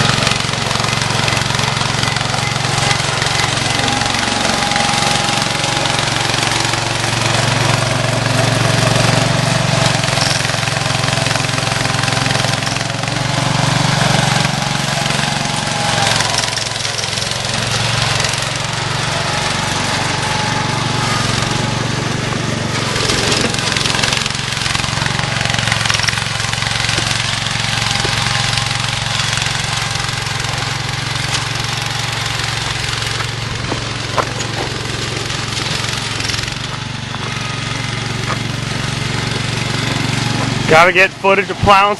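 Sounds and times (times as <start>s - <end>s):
garden tractor engine running: 0.0s - 41.9s.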